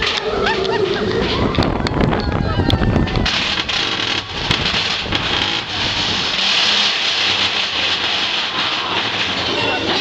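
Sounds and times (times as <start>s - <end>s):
roller coaster rumbling and rattling: 0.0s - 10.0s.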